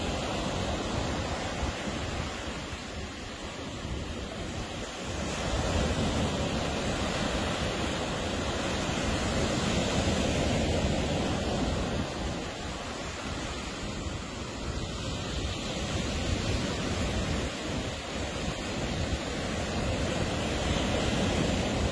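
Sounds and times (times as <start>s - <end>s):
waves breaking on a beach: 0.0s - 21.9s
wind on microphone: 0.0s - 21.9s.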